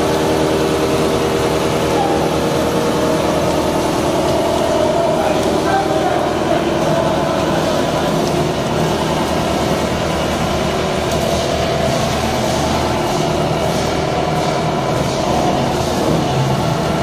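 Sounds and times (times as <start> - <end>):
wood shaving machine running: 0.0 - 17.0.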